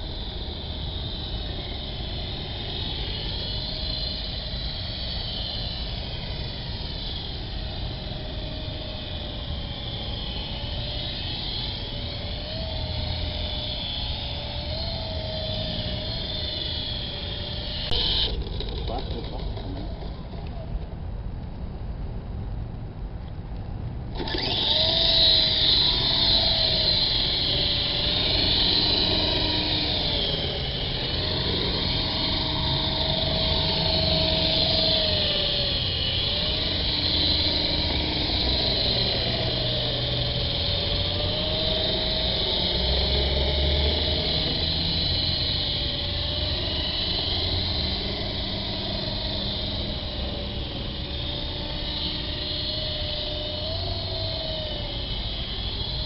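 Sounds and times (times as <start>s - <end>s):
radio-controlled helicopter whining: 0.0s - 21.1s, 24.1s - 56.0s.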